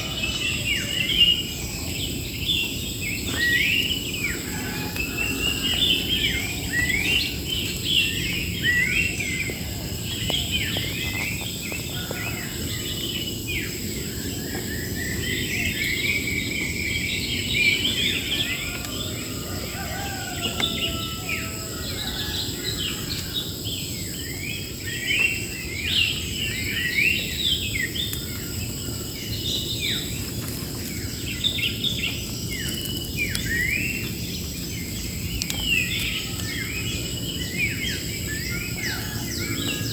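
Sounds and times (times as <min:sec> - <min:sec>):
high insect drone: 0:00.0 - 0:39.9
small birds chirping and singing: 0:00.0 - 0:39.9.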